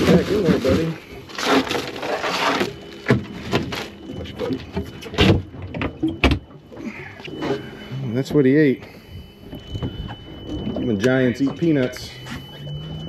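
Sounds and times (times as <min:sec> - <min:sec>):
faint high alarm tone: 0:00.0 - 0:13.0.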